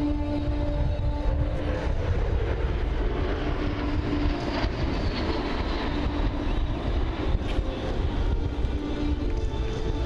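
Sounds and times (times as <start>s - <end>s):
high jet whine falling in pitch: 0.0s - 10.0s
jet engines roaring overhead: 0.0s - 10.0s.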